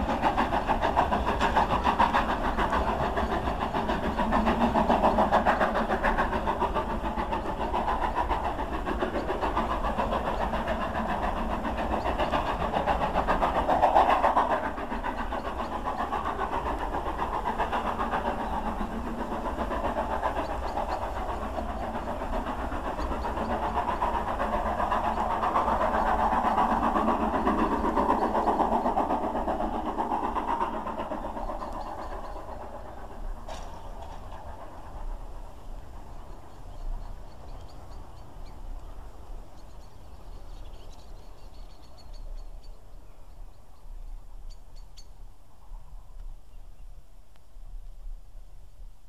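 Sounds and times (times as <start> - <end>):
train rumbling past: 0.0 - 49.0.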